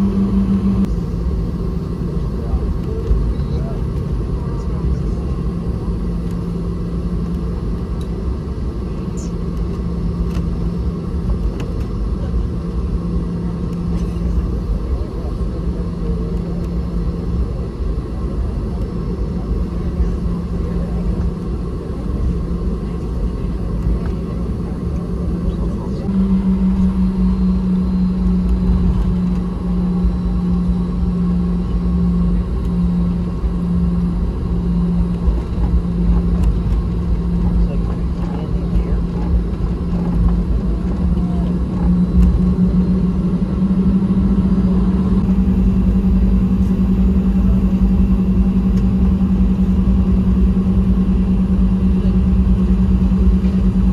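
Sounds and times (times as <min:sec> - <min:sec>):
aircraft cabin rumble: 0:00.0 - 0:53.9
low steady hum: 0:00.0 - 0:53.9.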